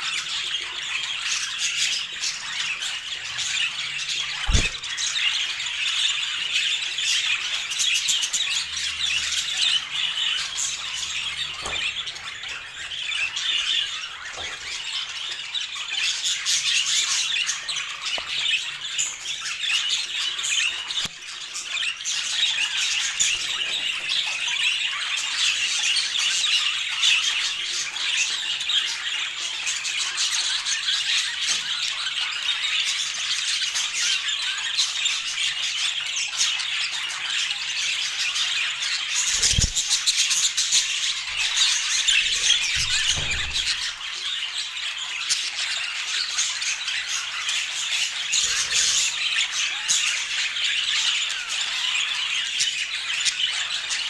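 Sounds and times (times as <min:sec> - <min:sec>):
budgerigars chattering and squawking: 0:00.0 - 0:54.0.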